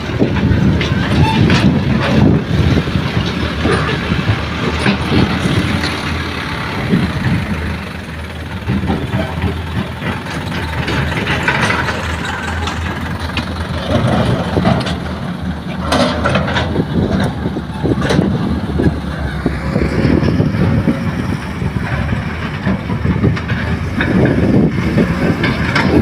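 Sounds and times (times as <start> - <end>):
diesel engine rumbling: 0.0 - 26.0
machinery clunks and knocks: 0.1 - 26.0.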